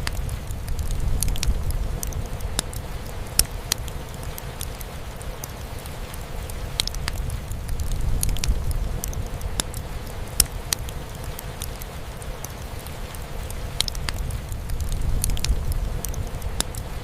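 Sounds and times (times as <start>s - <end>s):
rain: 0.0s - 17.0s
wood fire crackling and popping: 0.0s - 17.0s.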